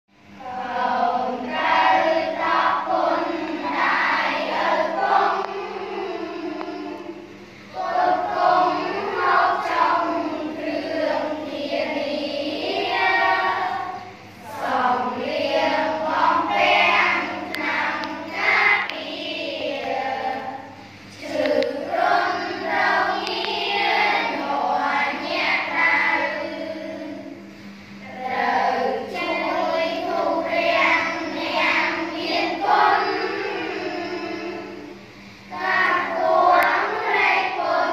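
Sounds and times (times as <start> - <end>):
children chanting in unison: 0.4 - 27.4, 28.0 - 34.9, 35.5 - 37.9.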